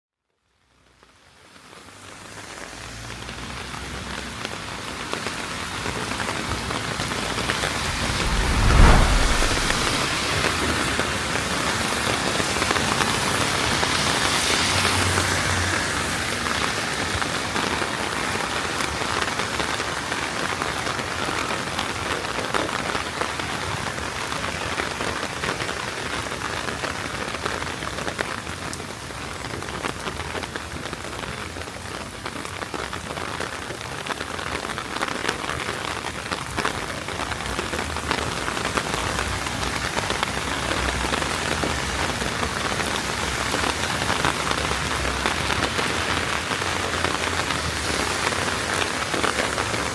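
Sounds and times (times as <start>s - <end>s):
heavy rain on the street: 0.3s - 8.9s, 10.0s - 49.9s.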